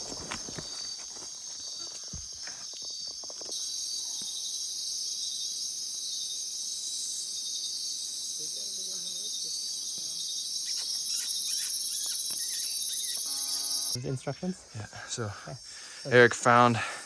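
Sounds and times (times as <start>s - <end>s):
insects buzzing and trilling: 0.0s - 17.0s.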